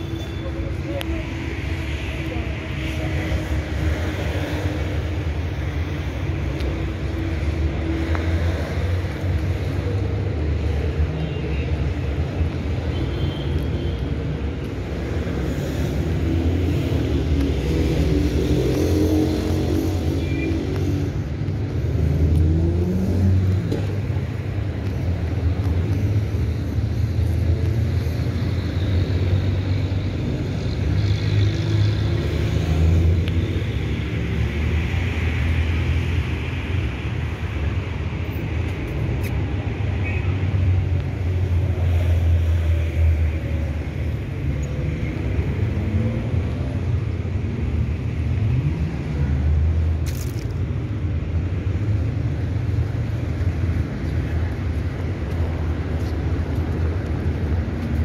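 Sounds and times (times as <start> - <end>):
cars passing with low rumble: 0.0 - 58.0.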